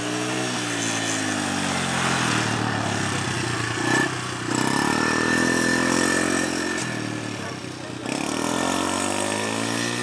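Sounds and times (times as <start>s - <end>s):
small quad engine running: 0.0s - 10.0s.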